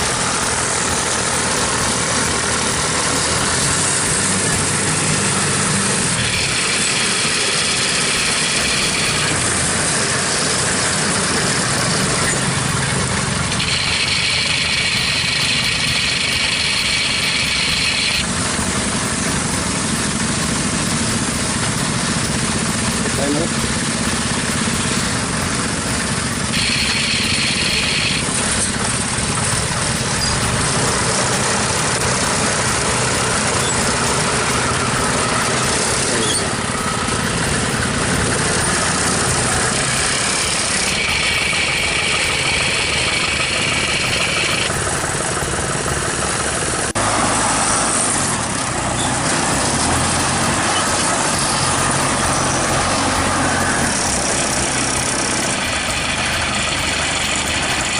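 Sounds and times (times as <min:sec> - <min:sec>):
farm machine engine running: 0:00.0 - 0:57.9.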